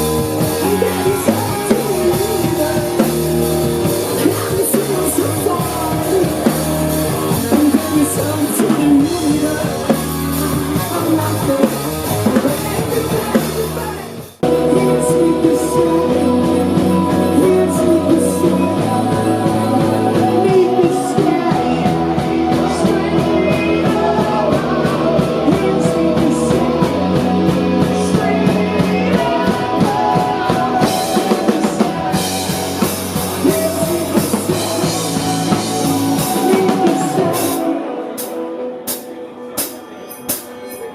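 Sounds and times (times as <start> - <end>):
drums: 0.0 - 40.9
electric guitar: 0.0 - 40.9
person singing: 0.0 - 40.9.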